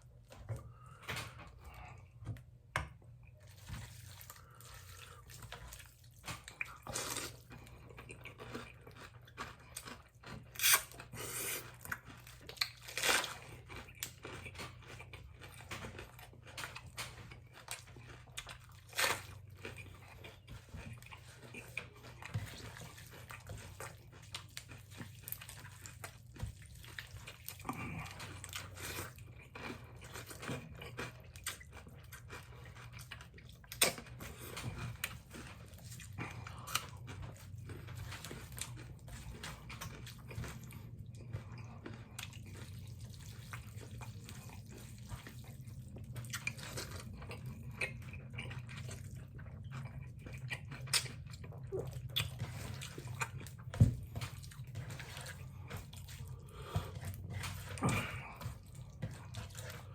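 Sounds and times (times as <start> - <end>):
people chewing noodles: 0.0 - 2.5, 3.2 - 59.9.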